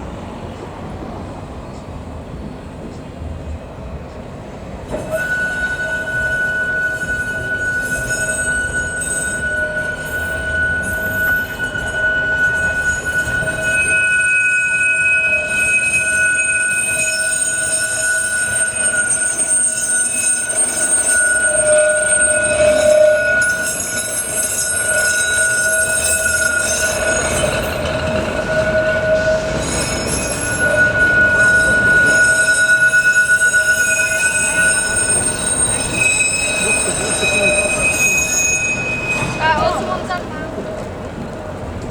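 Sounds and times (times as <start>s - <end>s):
tram wheels squealing: 0.0s - 41.9s.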